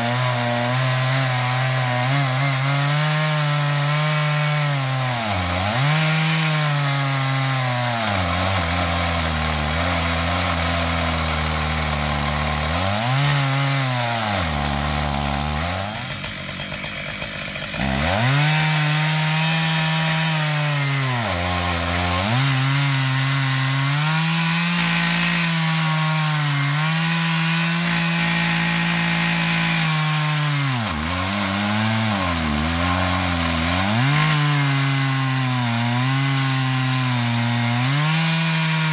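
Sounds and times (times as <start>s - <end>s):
chainsaw cutting log under load: 0.0s - 38.9s.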